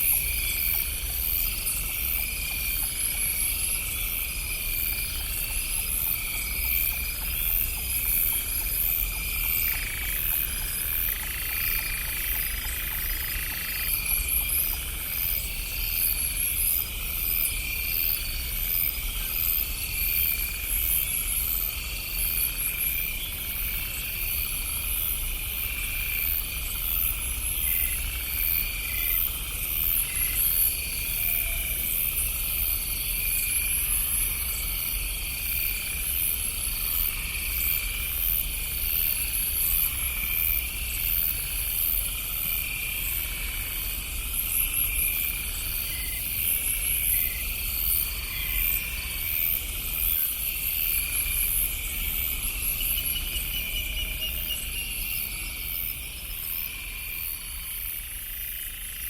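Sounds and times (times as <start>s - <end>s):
insects trilling and chirping: 0.0s - 59.0s.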